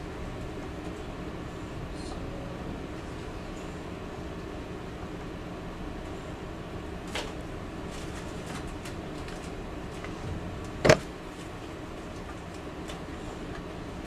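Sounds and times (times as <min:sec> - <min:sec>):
background hum: 0:00.0 - 0:14.0.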